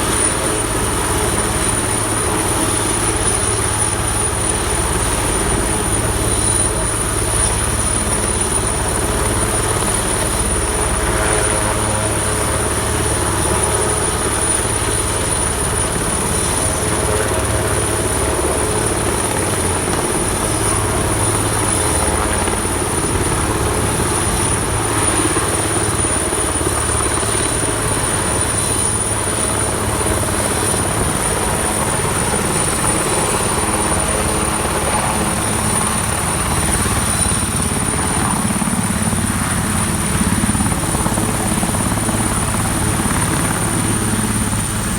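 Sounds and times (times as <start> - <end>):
helicopter rotor and engine drone: 0.0 - 44.9.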